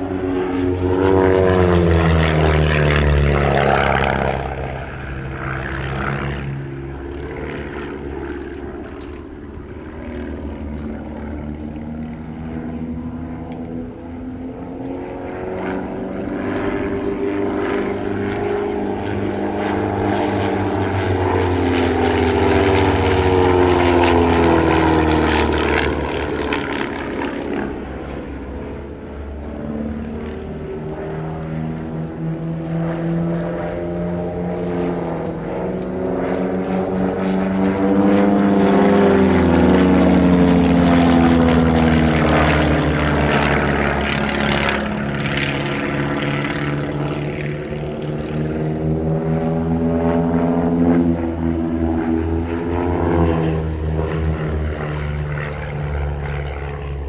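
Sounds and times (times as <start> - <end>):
propeller planes flying overhead: 0.0 - 57.0.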